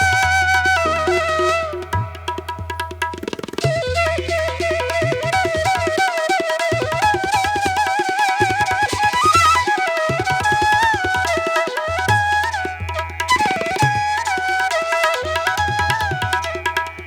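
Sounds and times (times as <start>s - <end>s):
flute-like melody: 0.0s - 17.0s
tabla drumming: 0.0s - 17.0s.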